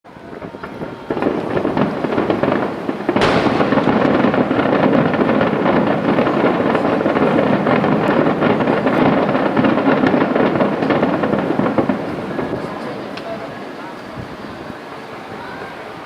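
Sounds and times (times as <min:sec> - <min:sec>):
fireworks bangs and crackling: 0:00.1 - 0:15.4.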